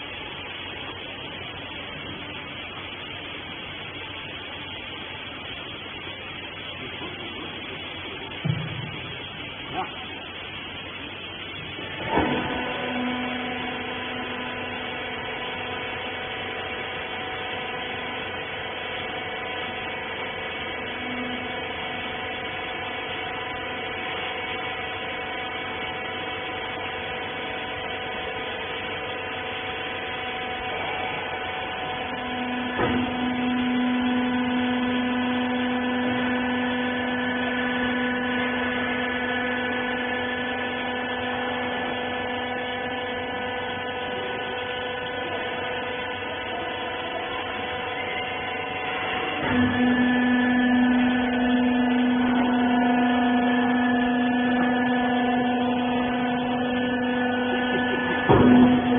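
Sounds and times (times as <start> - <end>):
hydraulic pump motor humming: 0.0 - 58.9.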